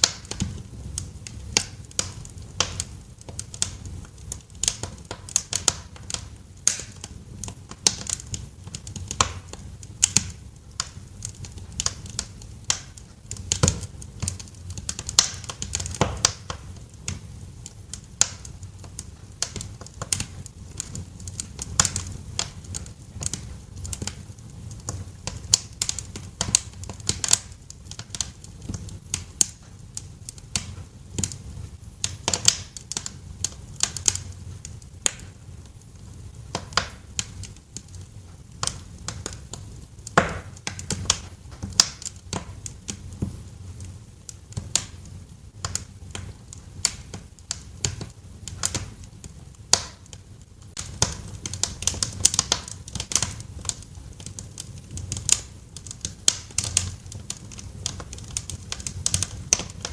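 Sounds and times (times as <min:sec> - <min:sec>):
fire pops and snaps: 0:00.0 - 0:59.9
low rumble of burning logs: 0:00.0 - 0:59.9
wood fire crackling: 0:00.0 - 0:59.9.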